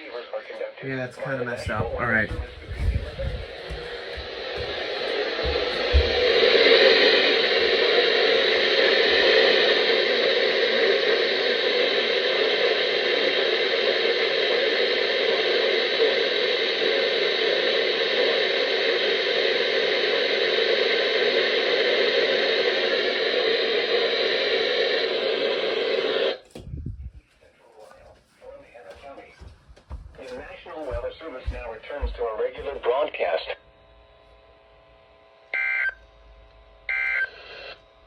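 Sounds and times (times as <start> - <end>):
radio static hiss: 0.0 - 26.4, 27.0 - 29.5, 30.2 - 34.2, 35.5 - 38.0.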